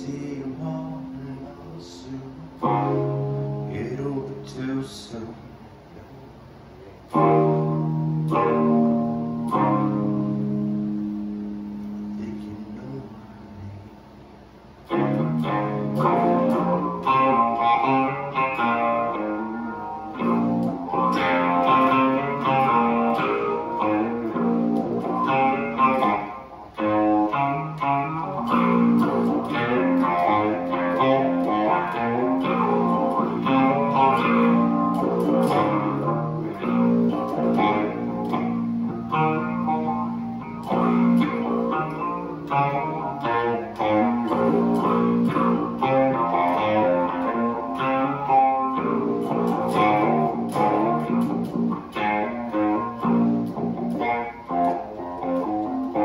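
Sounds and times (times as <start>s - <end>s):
electric guitar riff: 0.0s - 56.0s.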